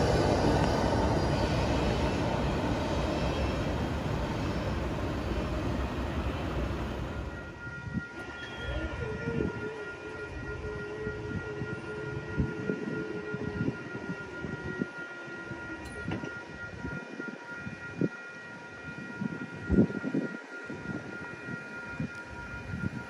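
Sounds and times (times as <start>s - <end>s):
high-pitched ringing tones: 0.0s - 23.0s
train rumble: 0.0s - 23.0s.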